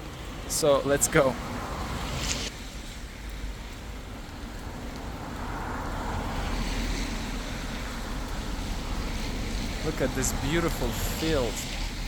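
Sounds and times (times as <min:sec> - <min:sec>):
outdoor rushing noise: 0:00.0 - 0:12.0.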